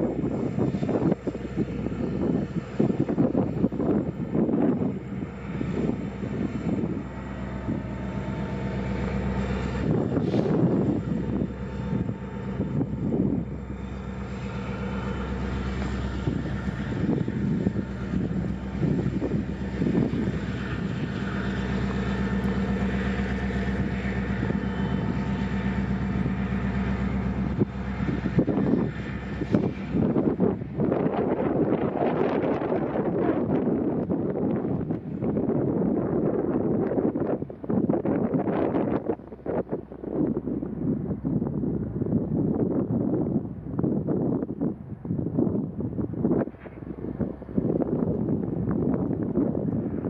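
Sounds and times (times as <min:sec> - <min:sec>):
diesel locomotive engines humming: 0:00.0 - 0:50.0
wind buffeting microphone: 0:00.0 - 0:50.0.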